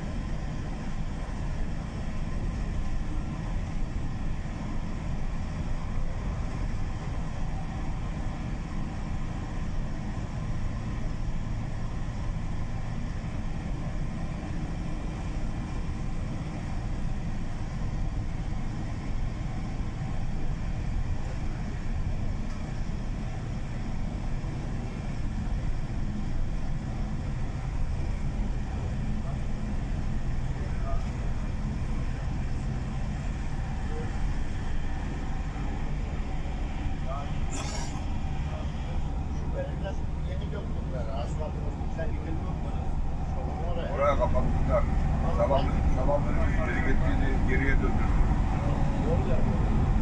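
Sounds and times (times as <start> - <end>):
vehicle engine and road noise: 0.0 - 50.0.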